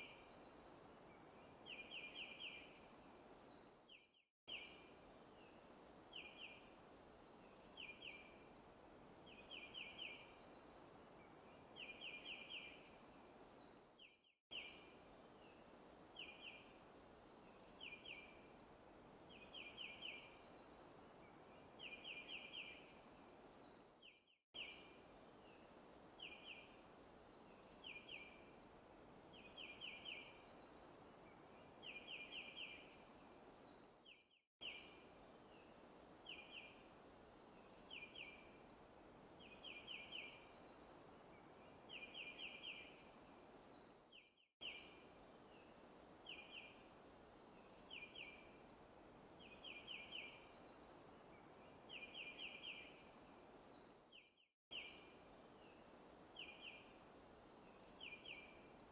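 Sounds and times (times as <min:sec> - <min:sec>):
soft steady hiss: 0:00.0 - 0:58.9.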